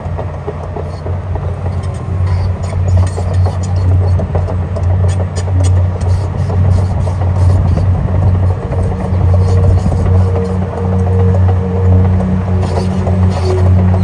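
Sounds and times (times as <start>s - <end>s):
excavator diesel engine: 0.0s - 14.0s
sharp clicks and clanks: 0.2s - 14.0s.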